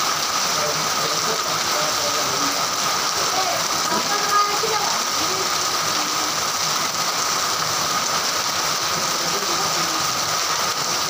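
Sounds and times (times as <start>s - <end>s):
heavy rain falling: 0.0s - 11.0s
water streaming off roof edge: 0.0s - 11.0s.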